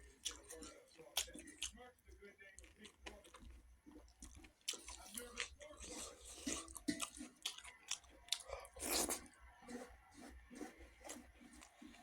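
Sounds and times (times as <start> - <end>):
close-up chewing: 0.0 - 12.0.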